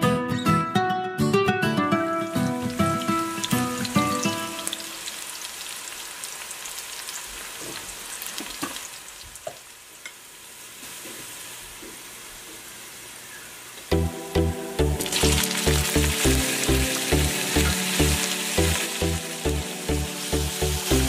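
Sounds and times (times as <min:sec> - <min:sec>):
onions sizzling in oil: 0:02.2 - 0:21.0.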